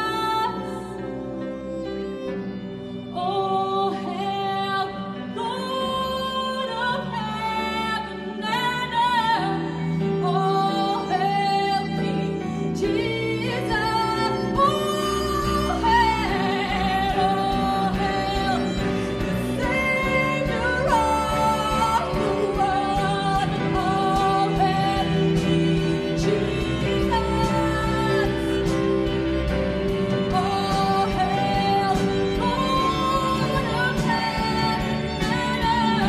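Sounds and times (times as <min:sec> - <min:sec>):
band of keyboard violin bass guitar: 0:00.0 - 0:36.0
women singing: 0:03.2 - 0:36.0.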